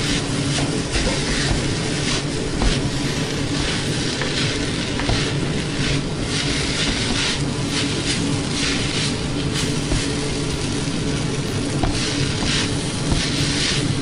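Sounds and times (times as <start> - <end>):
rice sizzling in a wok: 0.0 - 14.0
spatula scraping a wok: 0.0 - 14.0
steady low hum: 0.0 - 14.0.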